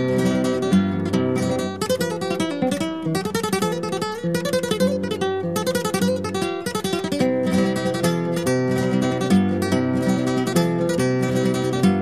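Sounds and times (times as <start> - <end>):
acoustic guitar plucked runs: 0.0 - 12.0.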